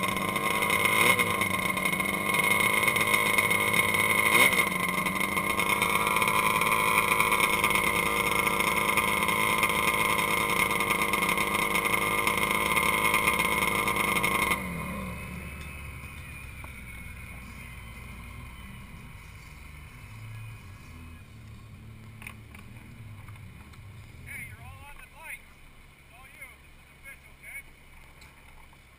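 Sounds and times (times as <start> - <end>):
snowmobile engine idling: 0.0 - 28.9.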